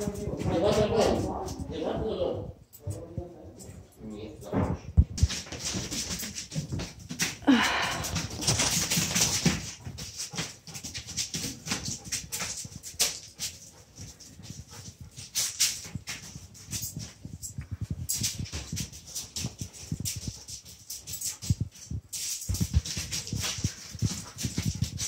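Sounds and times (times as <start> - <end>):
dog paws tapping: 0.0 - 25.0.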